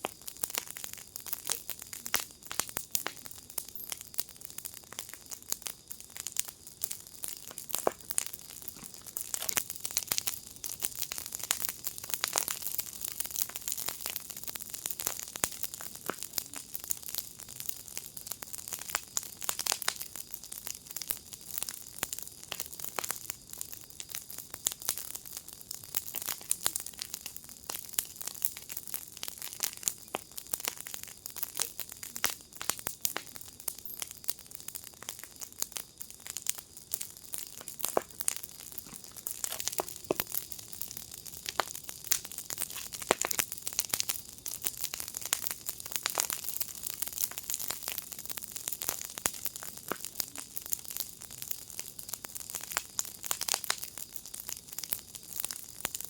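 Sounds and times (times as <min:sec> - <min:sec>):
fire hissing: 0:00.0 - 0:23.4, 0:25.9 - 0:50.7
wood fire crackling: 0:00.0 - 0:56.0.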